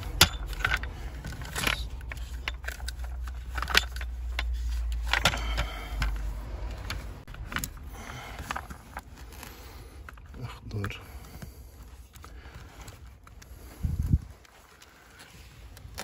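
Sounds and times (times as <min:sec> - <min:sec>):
wiring handling clicks and rattles: 0:00.0 - 0:16.0.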